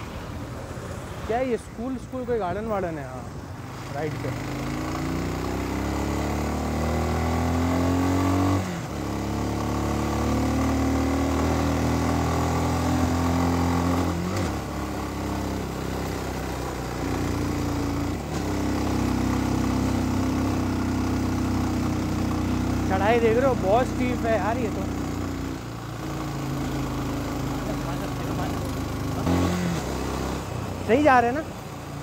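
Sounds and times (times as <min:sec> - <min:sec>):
motorcycle engine accelerating: 0:04.0 - 0:32.0.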